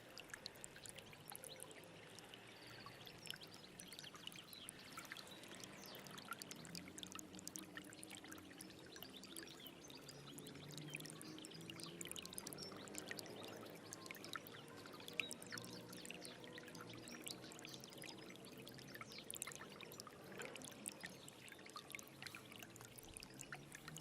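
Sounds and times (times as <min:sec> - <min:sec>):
stream trickling and gurgling: 0:00.0 - 0:24.0.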